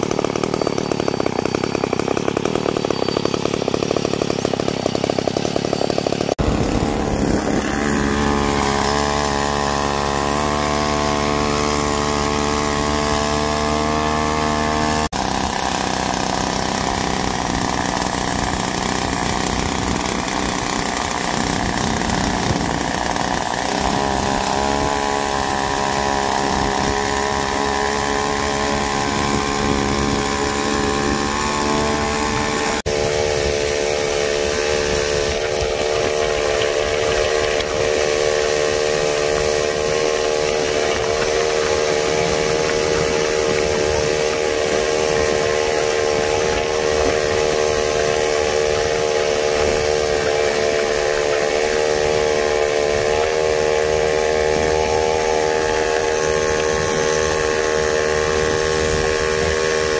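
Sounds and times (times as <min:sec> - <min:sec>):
two-stroke engine under load: 0:00.0 - 0:59.9.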